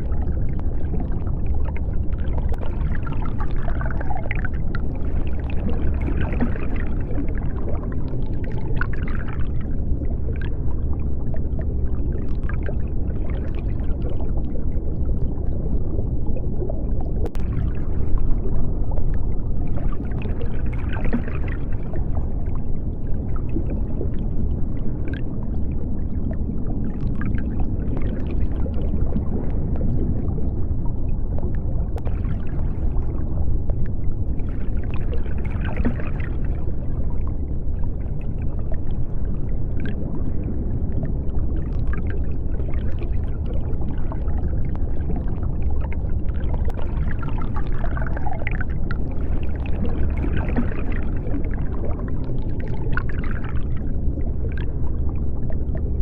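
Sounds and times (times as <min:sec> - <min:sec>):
deep underwater rumble: 0:00.0 - 0:56.0
water bubbling and gurgling: 0:00.0 - 0:56.0.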